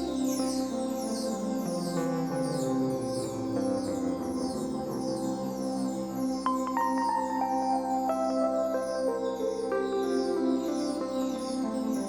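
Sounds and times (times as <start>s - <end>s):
soft ambient synthesizer music: 0.0s - 12.0s.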